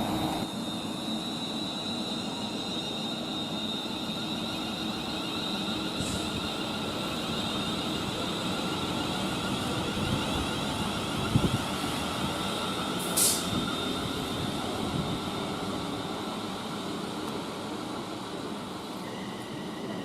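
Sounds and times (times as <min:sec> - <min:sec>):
train rumble with high whine: 0:00.0 - 0:20.0.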